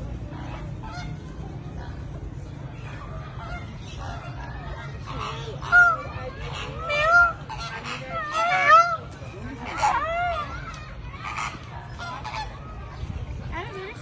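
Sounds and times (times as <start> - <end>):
low background rumble: 0.0 - 14.0
many birds calling: 0.0 - 14.0.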